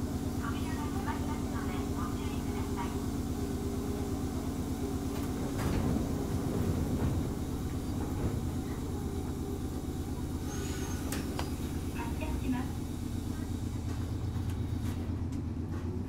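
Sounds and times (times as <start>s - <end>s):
railcar low hum: 0.0s - 16.0s.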